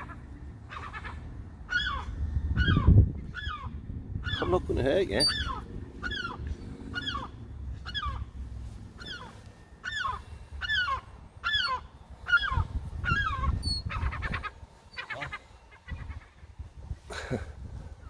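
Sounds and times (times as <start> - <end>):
bird crying: 0.0 - 4.6, 5.2 - 17.4.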